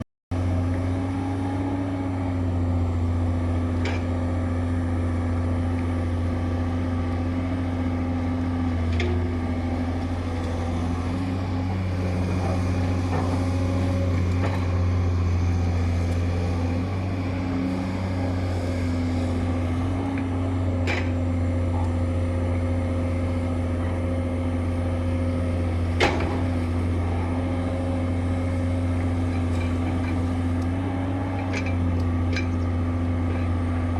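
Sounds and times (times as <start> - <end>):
diesel engine humming: 0.4 - 33.9.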